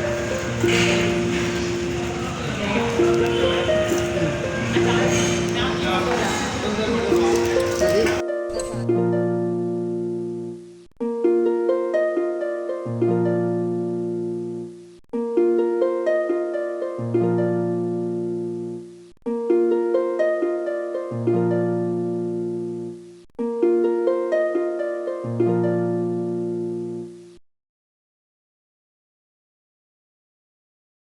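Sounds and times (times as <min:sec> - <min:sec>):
plucked-string melody: 0:00.0 - 0:27.4.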